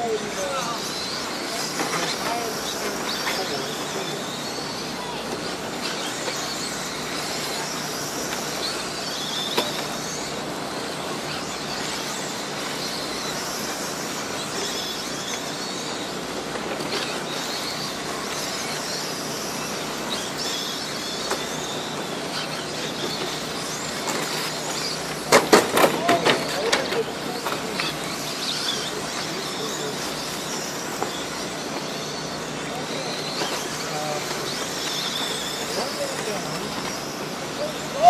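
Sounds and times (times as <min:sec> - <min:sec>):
electric motor whines: 0:00.0 - 0:38.0
tyres on dirt: 0:00.0 - 0:38.0.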